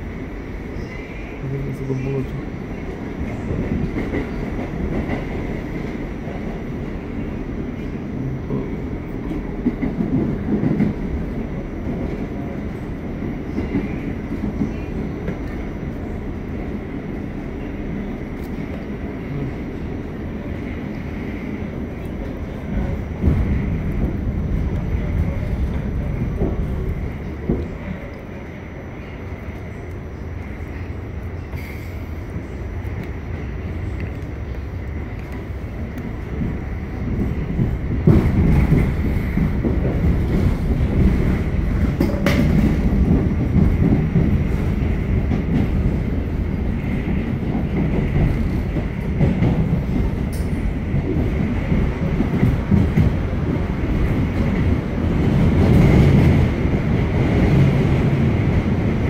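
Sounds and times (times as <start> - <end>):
subway car wheels rumbling: 0.0 - 59.0.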